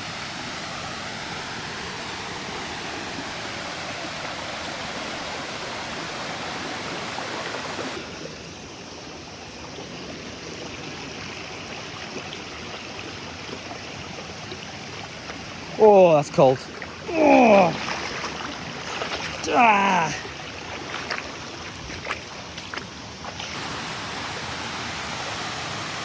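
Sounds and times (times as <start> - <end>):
waterfall rushing water: 0.0 - 9.0, 10.7 - 21.7, 22.3 - 26.0.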